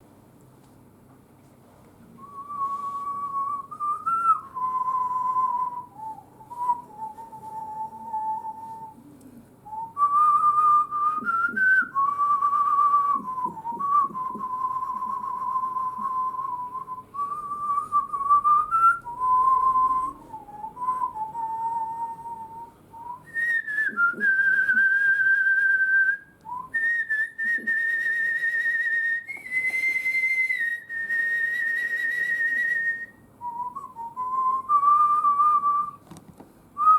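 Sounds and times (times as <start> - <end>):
person whistling a melody: 2.2 - 9.0, 9.7 - 36.0.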